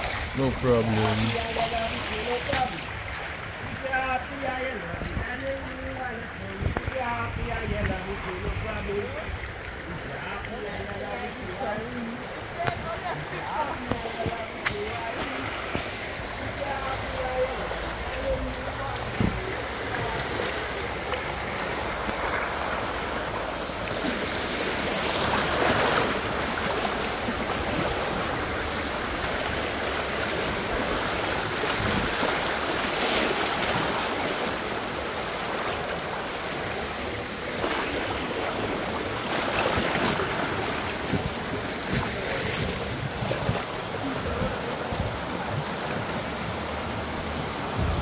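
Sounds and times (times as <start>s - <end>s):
rushing river water: 0.0s - 48.0s.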